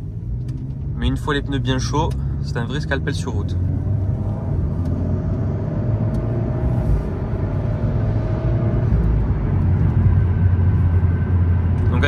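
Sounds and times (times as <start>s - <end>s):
car engine accelerating and upshifting: 0.0s - 12.0s.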